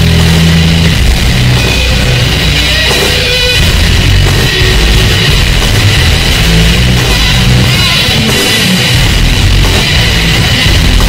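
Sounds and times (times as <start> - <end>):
hard rock music: 0.0 - 11.0.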